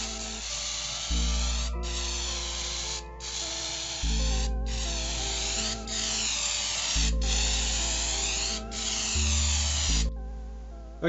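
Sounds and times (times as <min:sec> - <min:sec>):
spray-paint can hissing: 0:00.0 - 0:10.1
background music: 0:00.0 - 0:11.0.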